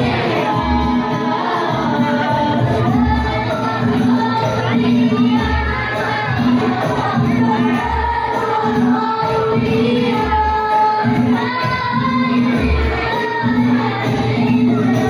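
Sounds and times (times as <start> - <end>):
boys singing together: 0.0 - 15.0
frame drums beating: 0.0 - 15.0.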